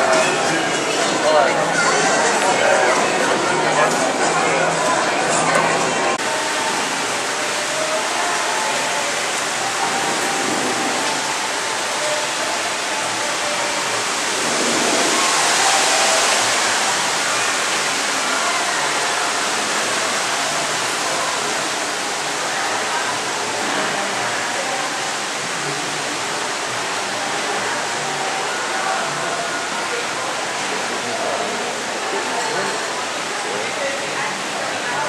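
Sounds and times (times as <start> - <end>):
faint indistinct voices: 0.0 - 35.0.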